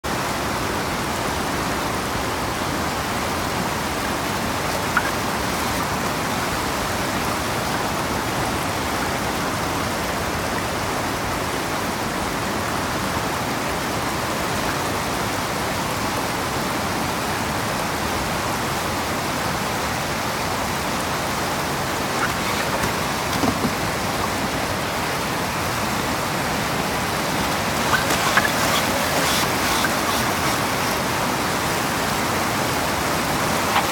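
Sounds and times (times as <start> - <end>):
river rapids rushing over rocks: 0.1 - 33.9.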